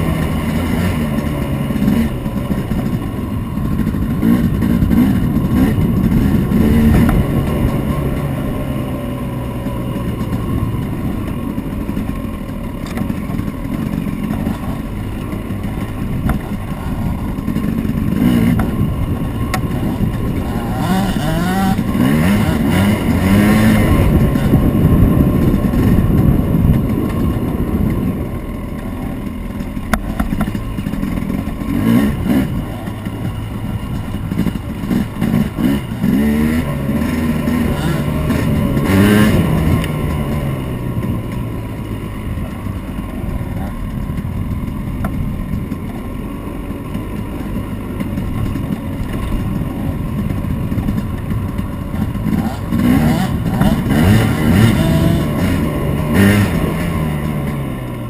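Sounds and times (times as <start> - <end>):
dirt bike engine revving: 0.0 - 45.7, 46.8 - 58.0.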